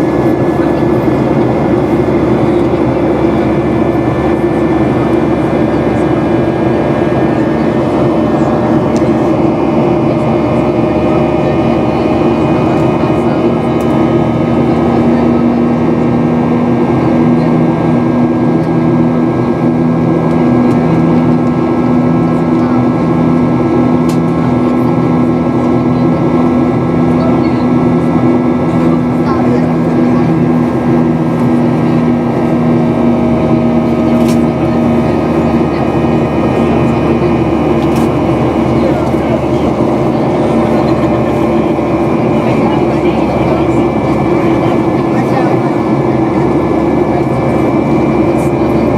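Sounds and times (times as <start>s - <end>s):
jet engine noise in cabin: 0.0s - 48.9s
low drone: 0.0s - 48.9s.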